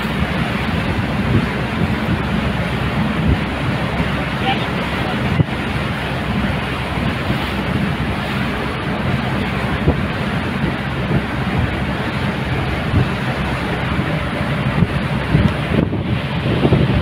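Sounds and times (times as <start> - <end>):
low steady engine drone: 0.0 - 17.0
water rushing past boat hull: 0.0 - 17.0
wind buffeting microphone: 0.0 - 17.0.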